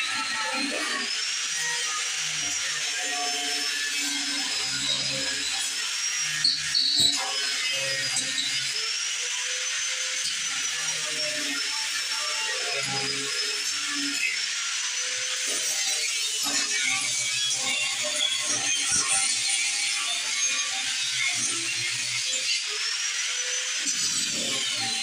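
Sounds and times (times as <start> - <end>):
angle grinder grinding steel: 0.0 - 25.0.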